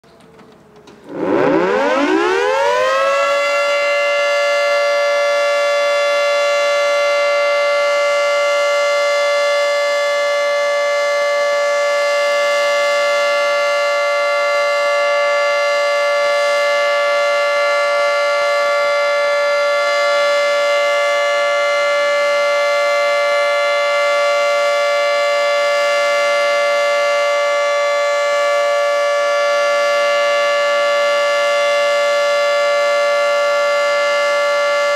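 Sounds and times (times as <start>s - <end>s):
outdoor warning siren chord: 0.8s - 34.9s.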